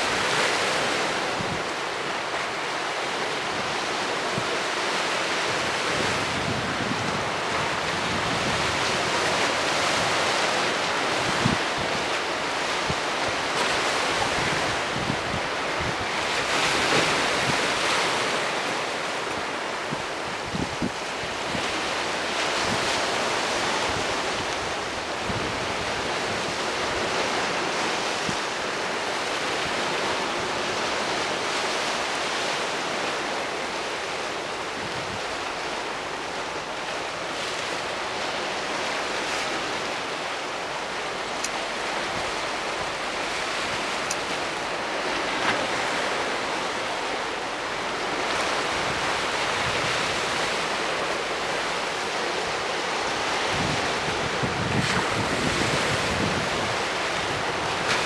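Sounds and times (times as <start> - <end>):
waves breaking on rocks: 0.0 - 58.0.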